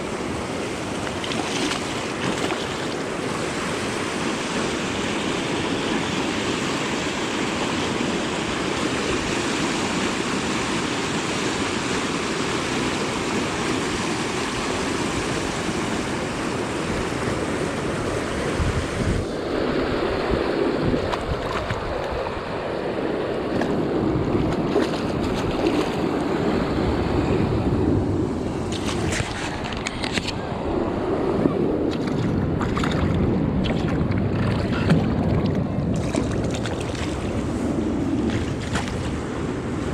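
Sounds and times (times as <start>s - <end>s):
rushing river water: 0.0s - 39.9s
wind buffeting microphone: 3.1s - 39.9s.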